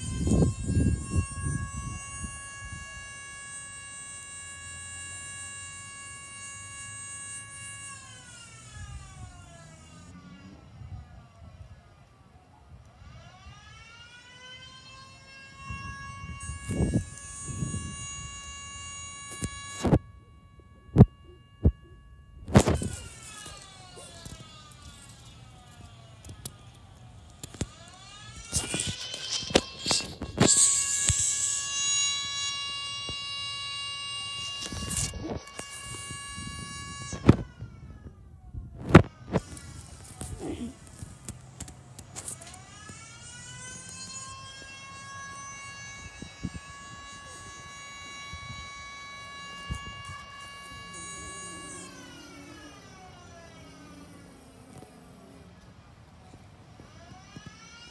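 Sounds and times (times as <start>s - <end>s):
siren wailing: 0.0s - 57.9s.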